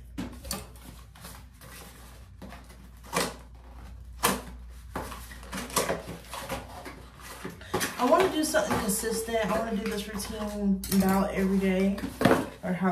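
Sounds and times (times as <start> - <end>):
packaging rustling and knocking: 0.0 - 12.7.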